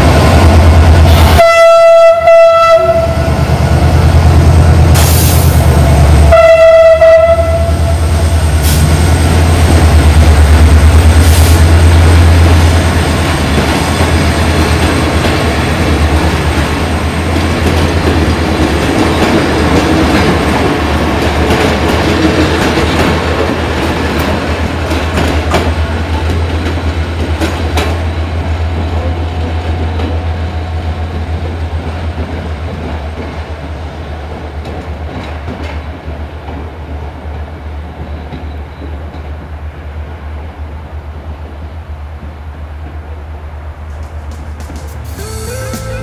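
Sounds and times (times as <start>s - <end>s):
train rumbling past: 0.0s - 46.0s.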